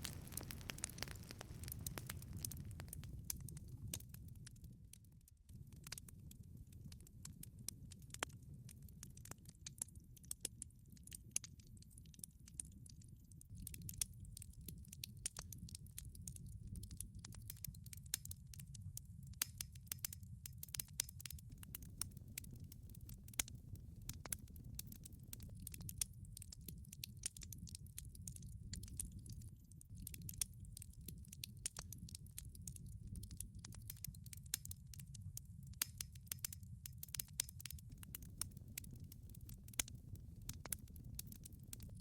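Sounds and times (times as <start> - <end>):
low rumble of flames: 0.0 - 42.0
wood fire crackling: 0.0 - 42.0.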